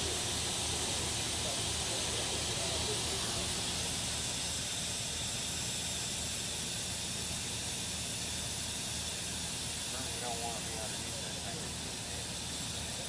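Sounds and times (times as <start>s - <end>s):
diesel engine running: 0.0s - 13.0s
high hiss: 0.0s - 13.0s.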